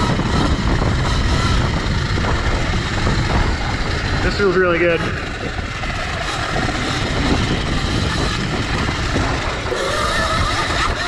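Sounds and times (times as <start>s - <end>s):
faint electric motor whine: 0.0s - 11.0s
tyres rumbling over dirt trail: 0.0s - 11.0s.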